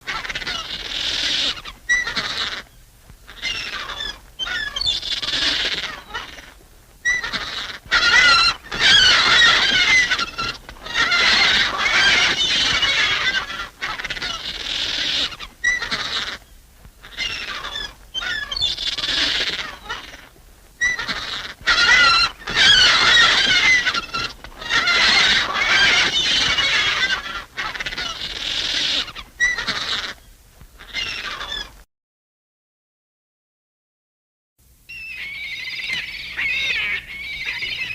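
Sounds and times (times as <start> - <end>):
cartoon seagull squawks: 0.0 - 2.7, 3.3 - 16.4, 17.0 - 30.2, 30.8 - 31.8, 34.9 - 37.9.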